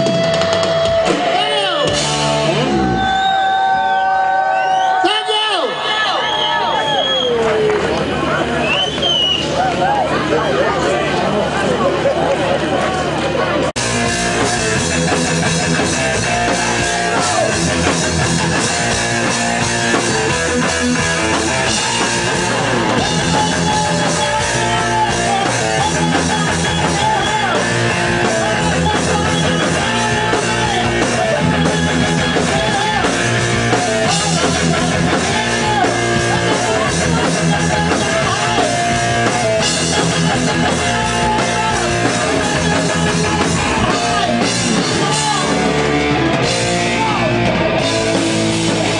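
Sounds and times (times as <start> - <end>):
electric guitar: 0.0 - 5.0, 6.6 - 48.9
drum kit: 0.0 - 5.4, 13.7 - 48.9.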